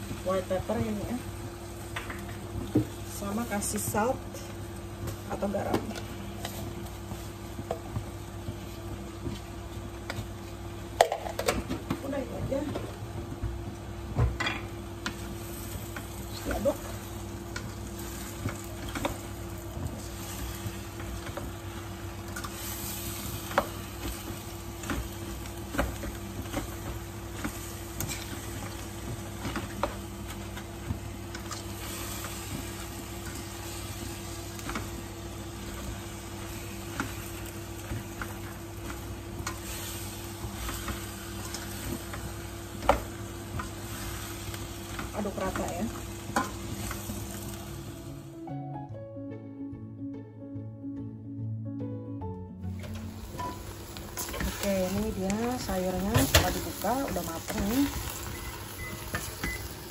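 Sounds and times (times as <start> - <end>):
vegetables sizzling in frying pan: 0.0 - 48.3, 52.6 - 59.9.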